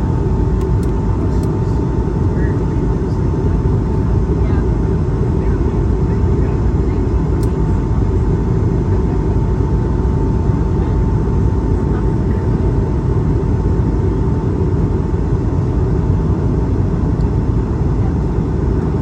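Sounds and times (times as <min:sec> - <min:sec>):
aircraft cabin engine and airflow noise: 0:00.0 - 0:19.0.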